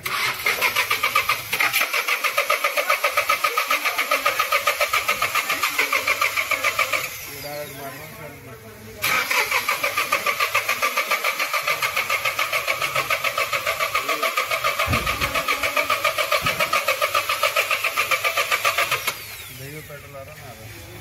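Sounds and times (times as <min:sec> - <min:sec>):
engine cranking by starter motor: 0:00.0 - 0:08.3, 0:08.9 - 0:20.4.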